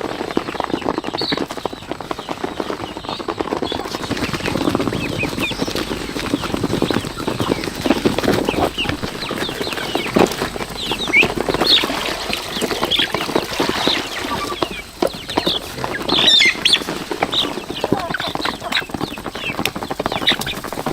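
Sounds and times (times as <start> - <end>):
chickens clucking and calling: 0.0 - 20.9
scratching and rustling: 0.0 - 20.9.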